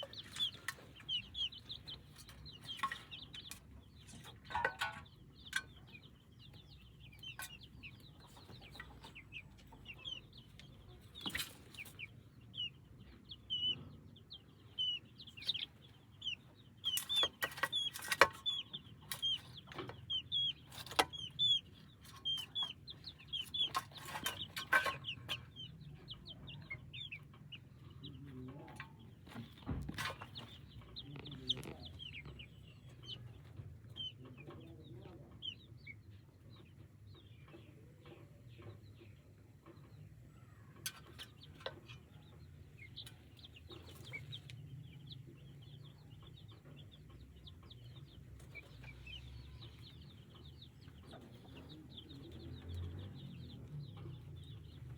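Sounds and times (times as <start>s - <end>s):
chickens clucking: 0.0s - 54.9s
chicks peeping: 0.0s - 54.9s.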